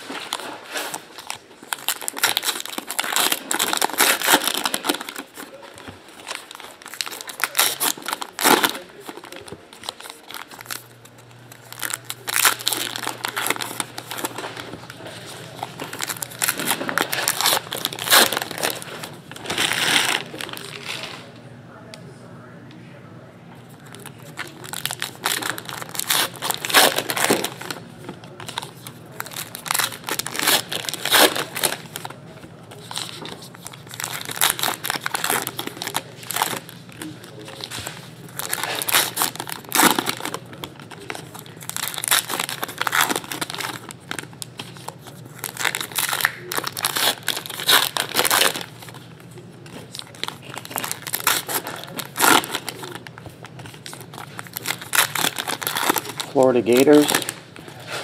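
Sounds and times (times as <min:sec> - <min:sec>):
foil wrappers crinkling and tearing: 0:00.0 - 0:21.3, 0:23.7 - 0:58.0.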